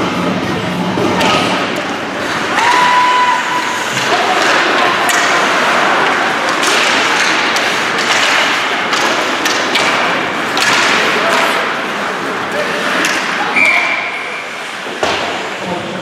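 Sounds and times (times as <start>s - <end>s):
crowd din: 0.0s - 16.0s.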